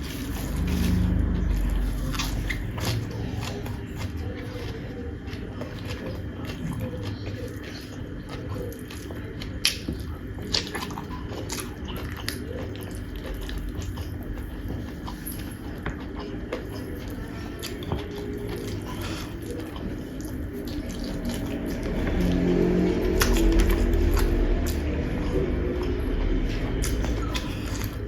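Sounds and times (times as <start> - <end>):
person chewing with wet mouth noises: 0.0 - 28.0
sharp food crunches: 0.0 - 28.0.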